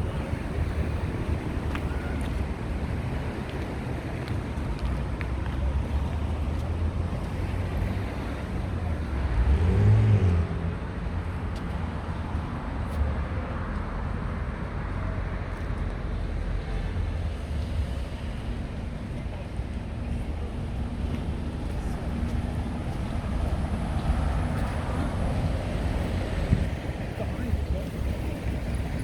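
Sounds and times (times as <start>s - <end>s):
rumble of traffic: 0.0s - 29.0s.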